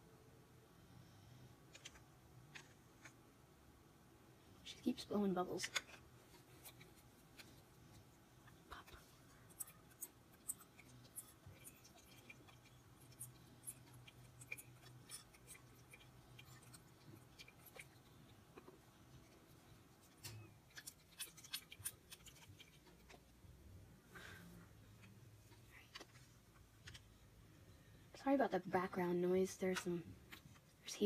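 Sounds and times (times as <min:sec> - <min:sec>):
low hum of appliances: 0:00.0 - 0:31.0.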